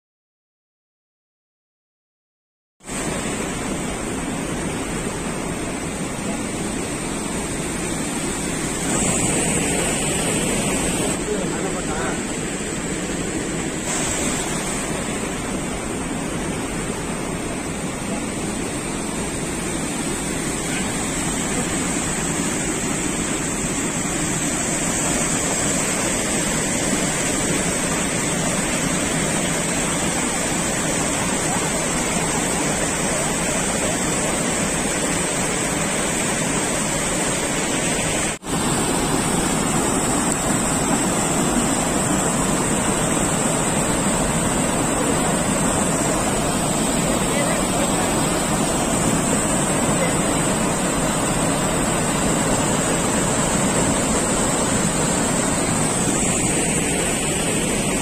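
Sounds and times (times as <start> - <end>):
water rushing through sluice: 2.8 - 58.0.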